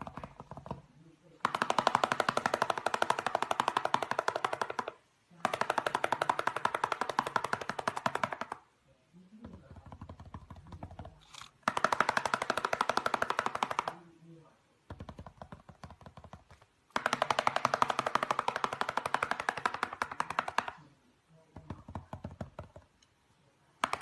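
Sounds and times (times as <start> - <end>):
parrot feet drumming on cardboard: 0.0 - 8.6, 9.4 - 14.0, 14.9 - 20.8, 21.6 - 23.0, 23.8 - 24.0.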